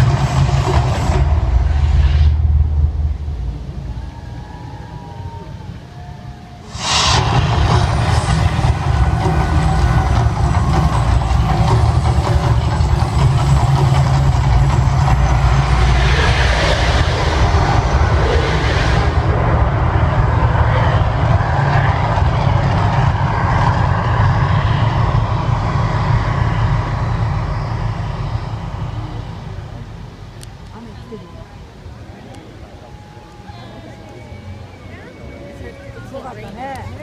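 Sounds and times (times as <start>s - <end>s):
rushing hiss: 0.0s - 5.0s, 6.6s - 33.3s
deep rumble of eruption show: 0.0s - 37.0s.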